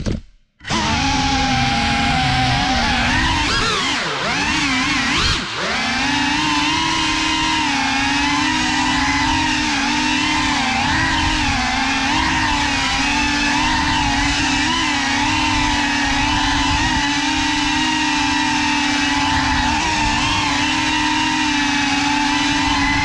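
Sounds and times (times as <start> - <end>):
drone propellers whining: 0.6 - 23.0.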